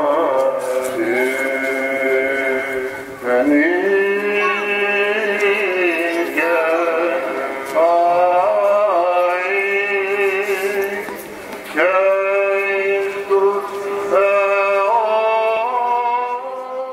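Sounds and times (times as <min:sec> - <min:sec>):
man chanting ornamented melody: 0:00.0 - 0:11.2, 0:11.8 - 0:16.9.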